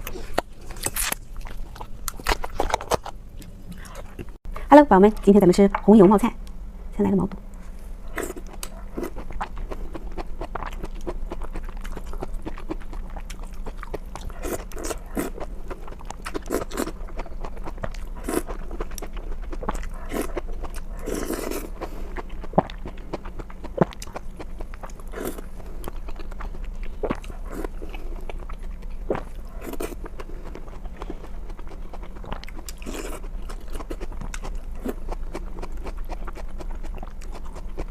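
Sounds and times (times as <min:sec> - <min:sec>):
crunchy chewing: 0:00.0 - 0:04.4, 0:08.0 - 0:37.9.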